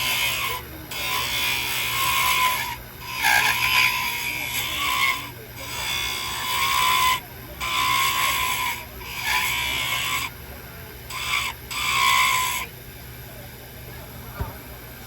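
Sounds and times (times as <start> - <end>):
tool scraping spinning wood: 0.0 - 10.4, 11.0 - 12.8
lathe whine: 0.0 - 15.0.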